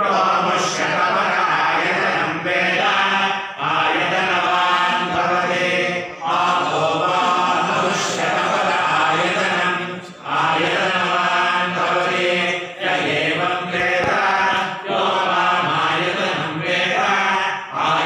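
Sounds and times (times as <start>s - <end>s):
person chanting: 0.0s - 18.0s.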